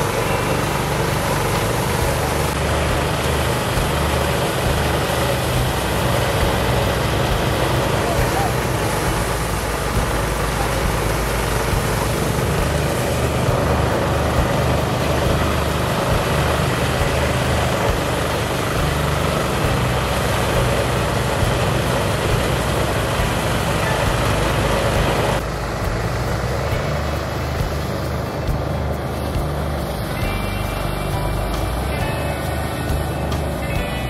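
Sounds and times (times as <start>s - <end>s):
rice thresher engine running: 0.0s - 34.0s.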